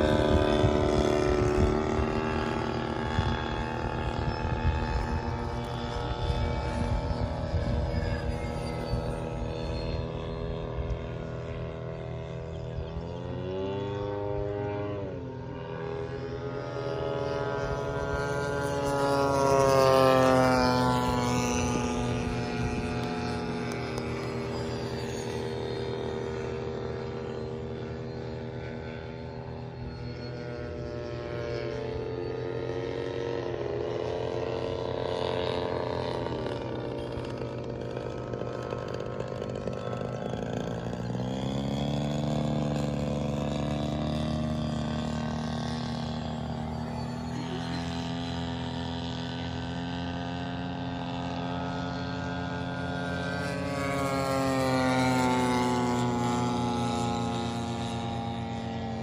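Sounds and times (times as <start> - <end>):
model airplane engine buzzing: 0.0 - 59.0.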